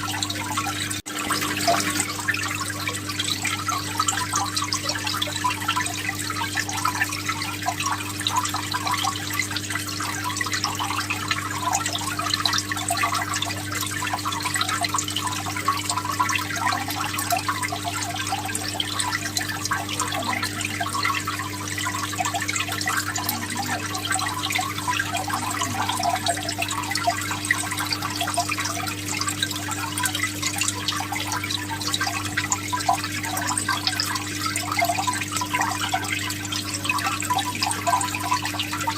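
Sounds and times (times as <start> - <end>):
pump humming: 0.0 - 38.9
water trickling and splashing: 0.0 - 38.9.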